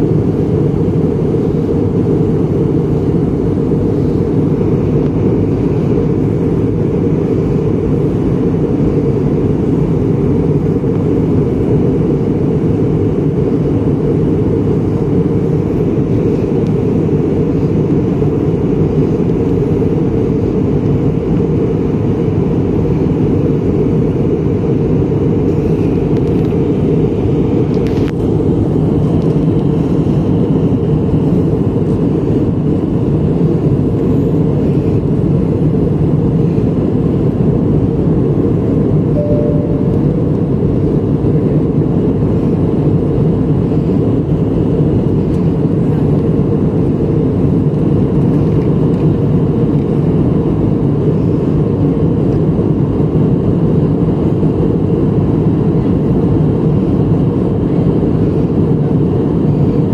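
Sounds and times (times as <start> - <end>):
jet airliner cabin noise: 0.0 - 59.9.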